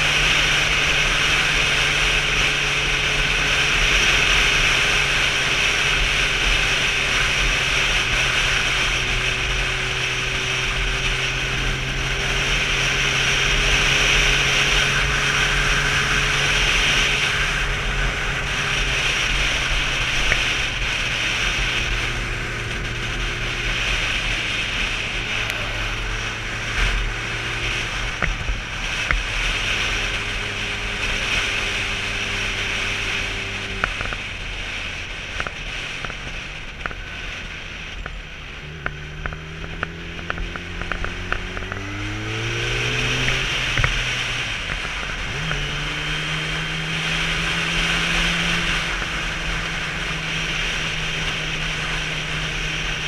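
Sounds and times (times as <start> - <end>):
motorcycle engine cruising: 0.0 - 53.0
wind and road noise: 0.0 - 53.0.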